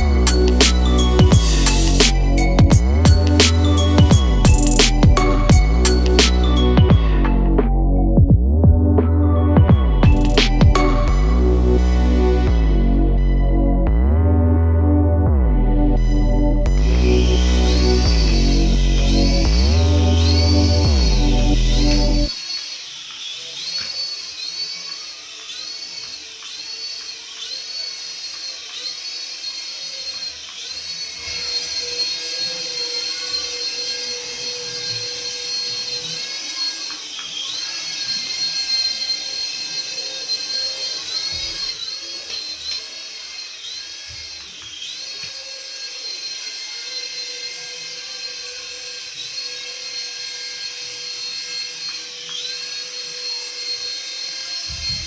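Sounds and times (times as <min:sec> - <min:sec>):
toy electric motor whining: 0:00.0 - 0:07.6, 0:09.5 - 0:12.5, 0:16.6 - 0:55.0.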